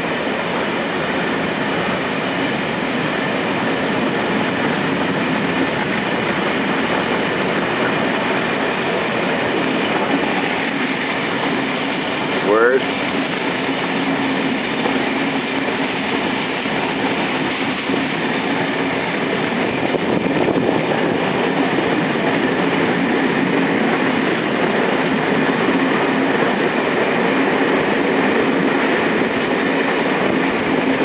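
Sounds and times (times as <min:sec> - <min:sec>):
constant hum: 0:00.0 - 0:31.0
train rumbling on rails: 0:00.0 - 0:31.0.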